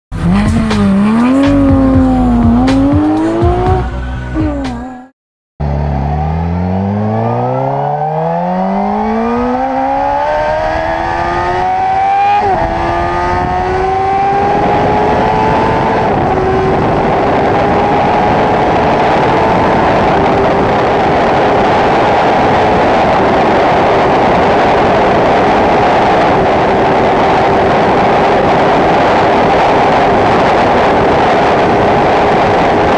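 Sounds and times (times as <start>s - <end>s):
wind rush: 0.1s - 4.0s, 7.0s - 32.9s
motorcycle engine at full throttle: 0.1s - 32.9s.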